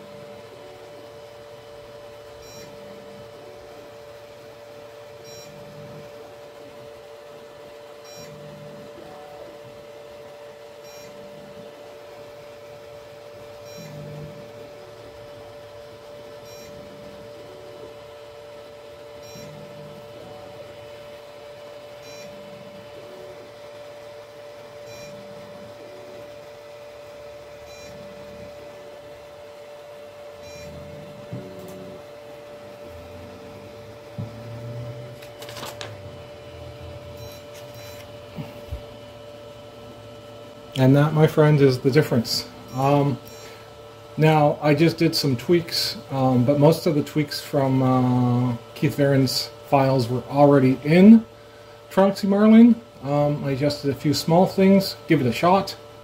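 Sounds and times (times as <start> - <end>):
printer fans and motors humming: 0.0 - 56.0.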